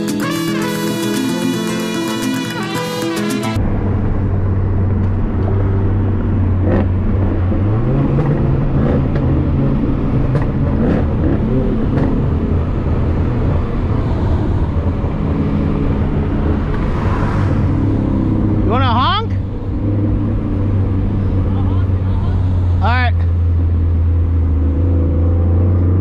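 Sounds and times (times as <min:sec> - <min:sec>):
car engine drone: 0:00.0 - 0:26.0
tyre and road noise: 0:00.0 - 0:26.0.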